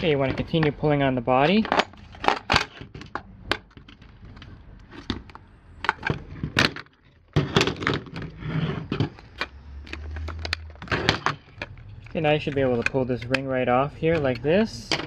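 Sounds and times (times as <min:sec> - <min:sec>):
plastic parts clicking and rattling: 0:01.4 - 0:15.0.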